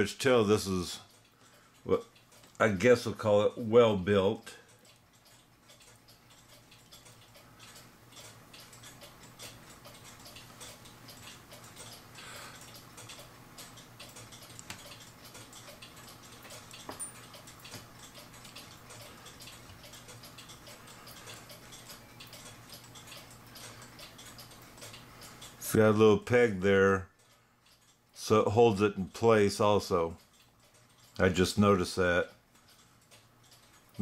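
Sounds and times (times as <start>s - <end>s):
clock ticking: 0.0s - 34.0s
low steady hum: 0.0s - 34.0s.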